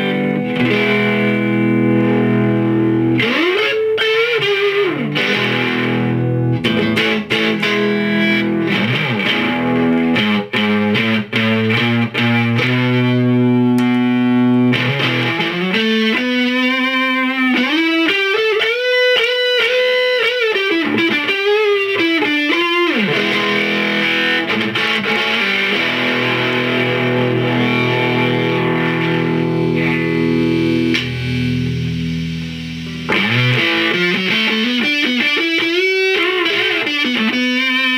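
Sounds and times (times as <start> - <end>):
distorted electric guitar: 0.0 - 37.9.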